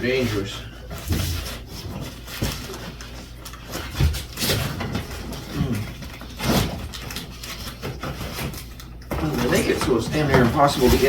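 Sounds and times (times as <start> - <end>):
packaging rustling: 1.0 - 11.0.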